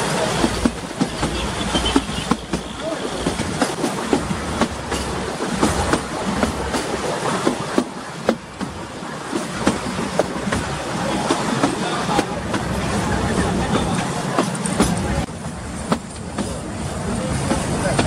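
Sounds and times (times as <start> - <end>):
train coaches rumbling and rattling: 0.0 - 18.0
wheels clanking over rail joints: 0.0 - 18.0.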